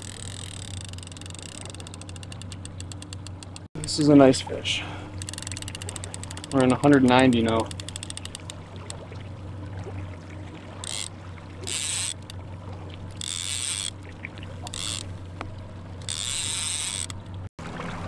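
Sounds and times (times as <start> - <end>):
fishing reel whirring: 0.0 - 4.3, 4.9 - 9.0, 10.7 - 12.4, 13.0 - 17.3
boat motor humming: 0.0 - 18.0.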